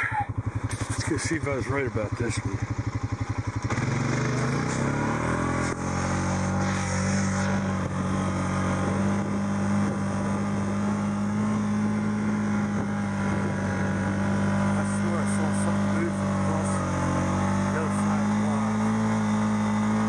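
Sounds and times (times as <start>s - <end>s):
utility vehicle engine under load: 0.0s - 20.0s.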